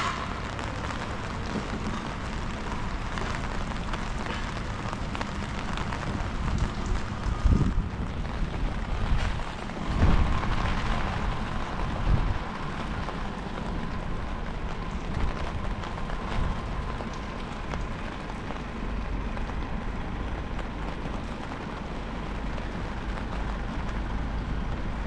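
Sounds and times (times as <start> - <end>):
rain pattering: 0.0 - 25.0
wind gusting against microphone: 0.0 - 25.0.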